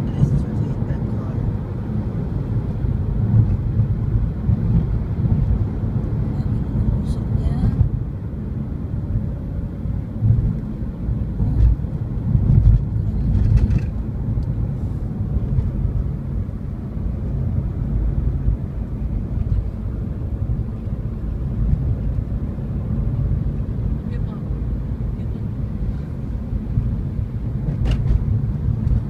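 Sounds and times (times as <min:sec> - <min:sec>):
road noise: 0:00.0 - 0:29.0
vehicle engines rumbling: 0:00.0 - 0:29.0.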